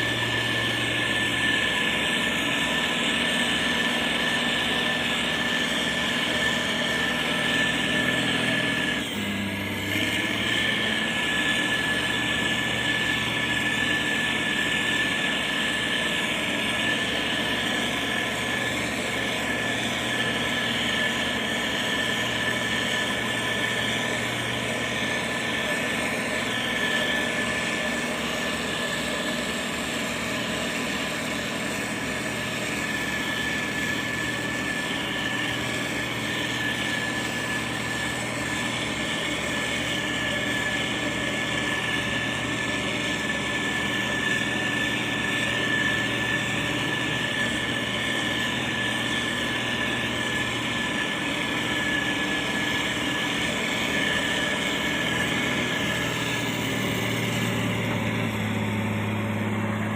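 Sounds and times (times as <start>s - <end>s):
heavy diesel machinery running: 0.0s - 59.9s
high whine: 0.0s - 59.9s.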